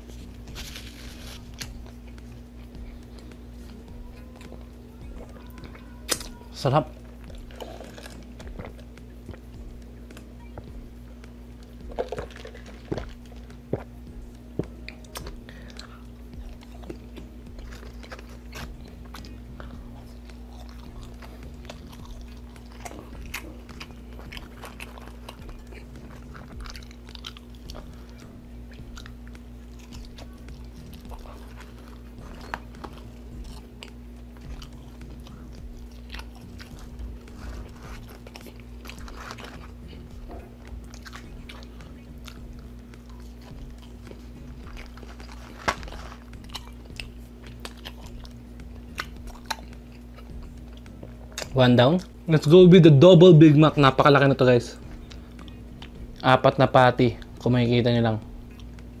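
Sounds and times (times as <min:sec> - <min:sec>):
chewing french fries: 0:00.0 - 0:59.0
steady low hum: 0:00.0 - 0:59.0.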